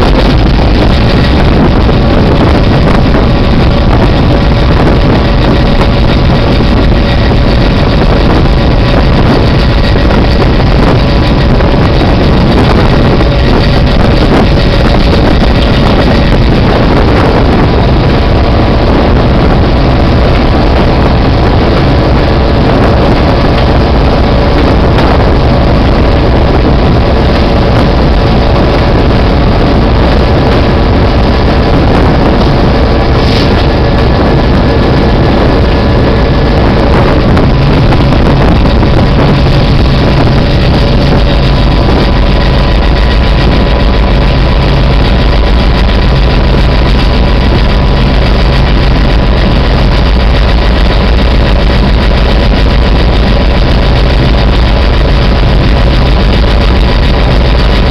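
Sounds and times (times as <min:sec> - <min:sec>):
diesel locomotive engine drone: 0:00.0 - 0:57.9
wind buffeting microphone: 0:00.0 - 0:57.9.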